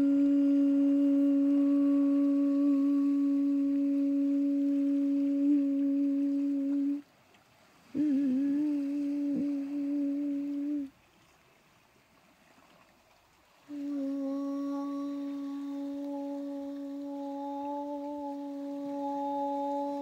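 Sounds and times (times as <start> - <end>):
person humming low note: 0.0 - 7.0, 7.9 - 10.9, 13.7 - 20.0.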